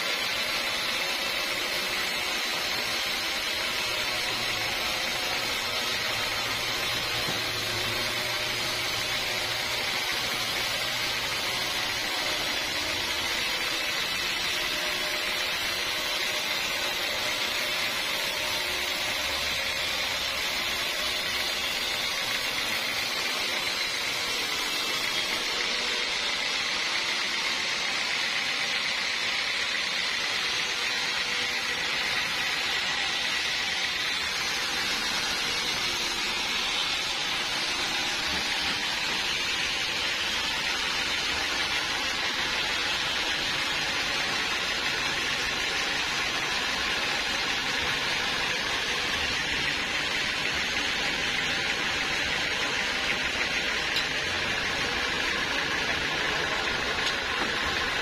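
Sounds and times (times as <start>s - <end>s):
sawmill saw cutting log: 0.0s - 58.0s.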